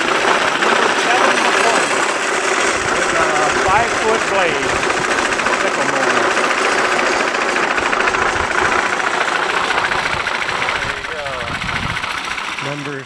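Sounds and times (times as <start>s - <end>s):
sickle mower clattering: 0.0s - 13.0s.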